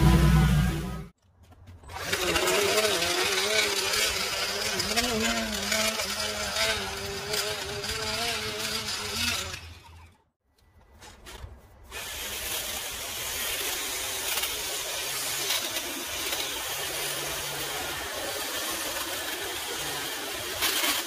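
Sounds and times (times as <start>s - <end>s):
string trimmer cutting grass: 1.8s - 10.2s, 11.9s - 21.0s.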